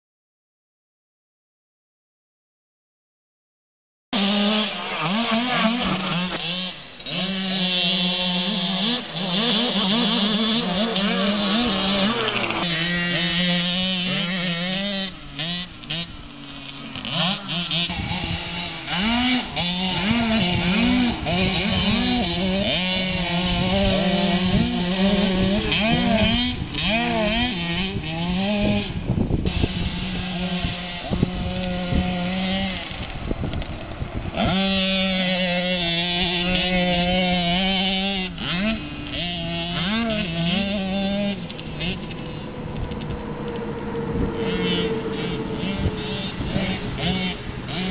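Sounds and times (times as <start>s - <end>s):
two-stroke dirt bike engines revving: 4.2s - 47.9s.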